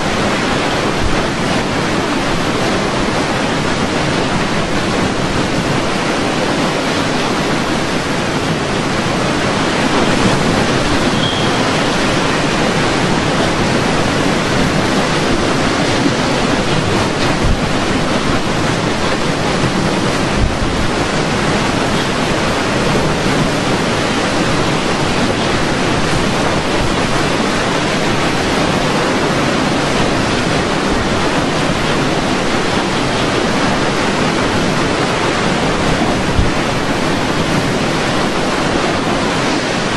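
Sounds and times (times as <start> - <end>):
storm wind and water rushing: 0.0 - 39.9.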